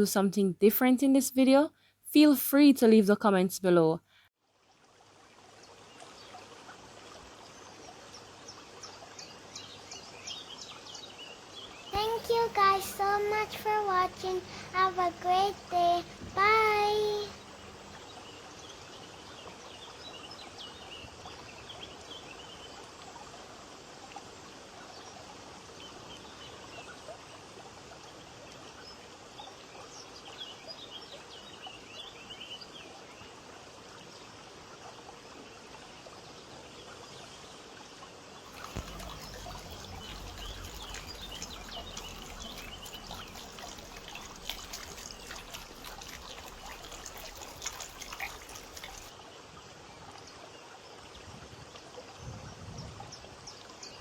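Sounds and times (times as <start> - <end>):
fountain water trickling and splashing: 4.4 - 54.0.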